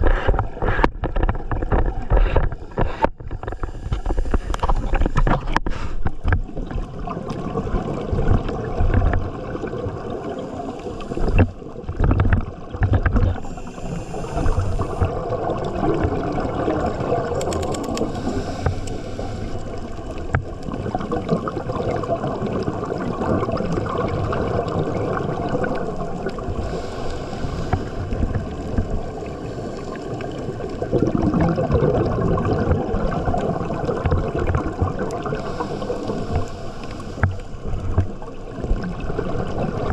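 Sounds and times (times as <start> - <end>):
underwater moving water: 0.0 - 39.9.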